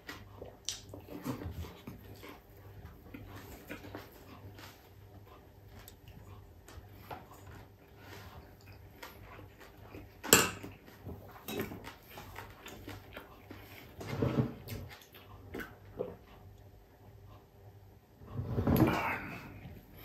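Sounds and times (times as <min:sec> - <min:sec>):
man chewing: 0:00.0 - 0:17.6.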